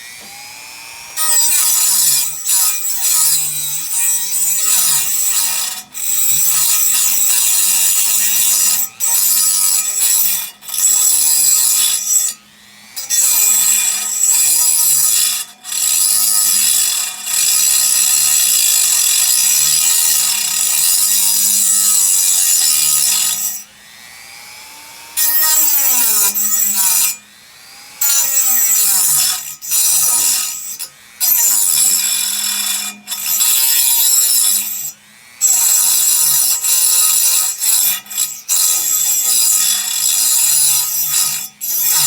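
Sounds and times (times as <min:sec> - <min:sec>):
rotary tool cutting whine: 0:00.0 - 0:42.0.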